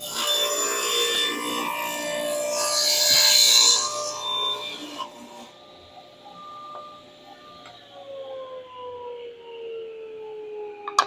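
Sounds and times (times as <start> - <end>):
table saw cutting wood: 0.0 - 9.0
saw motor humming: 0.0 - 9.4.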